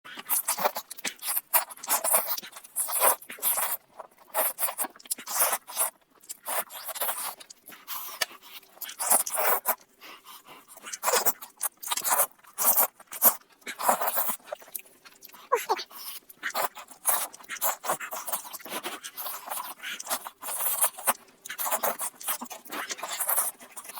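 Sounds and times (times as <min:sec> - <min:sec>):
wet chewing and smacking: 0:00.1 - 0:23.9.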